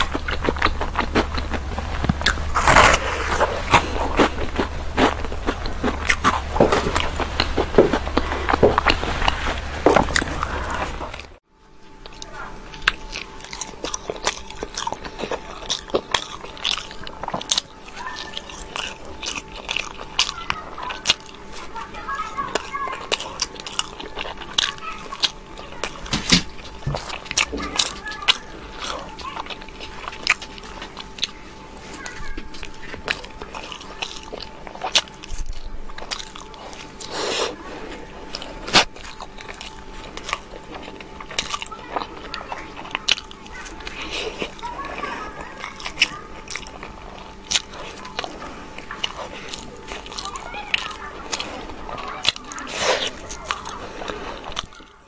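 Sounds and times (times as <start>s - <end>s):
chewing pastry: 0.0s - 55.0s.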